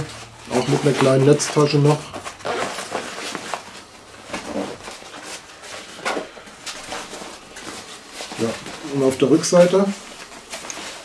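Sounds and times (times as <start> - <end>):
fabric bag rustling: 0.0 - 11.0.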